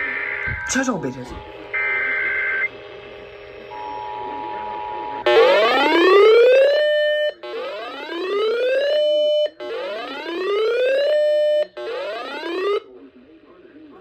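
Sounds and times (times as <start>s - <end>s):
electronic whooping alarm: 0.0s - 12.8s.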